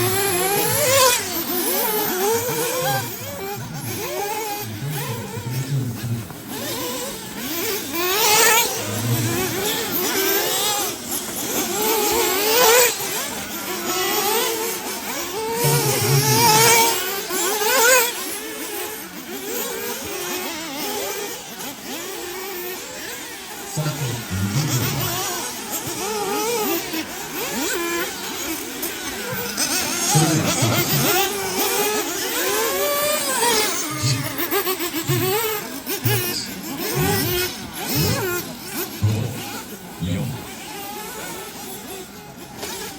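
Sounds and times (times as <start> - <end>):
rc buggy engines whining: 0.0 - 42.9.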